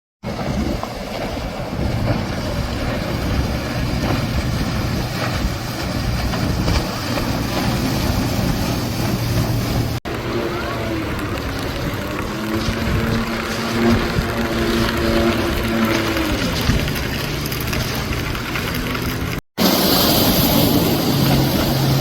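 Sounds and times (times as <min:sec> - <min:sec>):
motorboat engines droning: 0:00.2 - 0:22.0
steady engine: 0:00.2 - 0:22.0.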